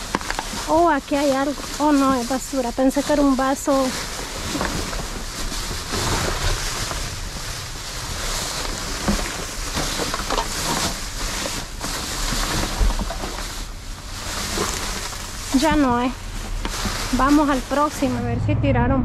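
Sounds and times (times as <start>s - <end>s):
plastic trash bags rustling: 0.0s - 18.2s
wind rumbling on microphone: 0.0s - 19.0s.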